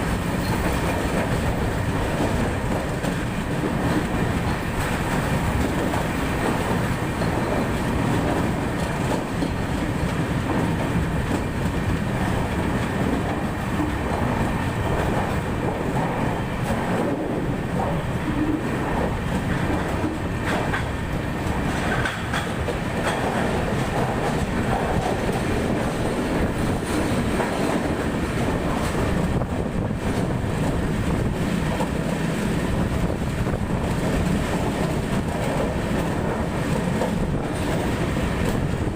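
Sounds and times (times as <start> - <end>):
train wheels clattering over rail joints: 0.0 - 38.9.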